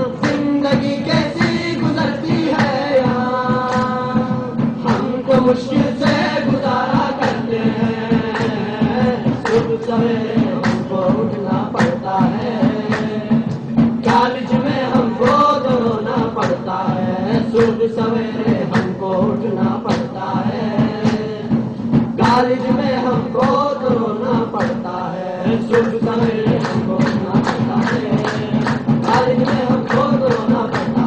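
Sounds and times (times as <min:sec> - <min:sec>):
sharp percussion hits: 0:00.0 - 0:31.0.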